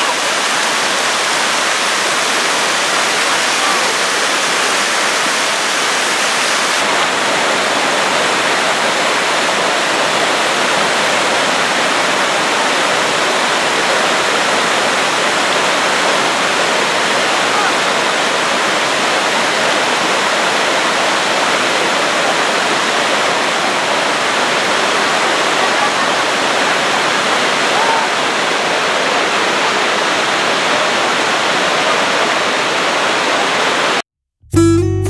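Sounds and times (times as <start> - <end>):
waterfall rushing over rock: 0.0 - 34.0.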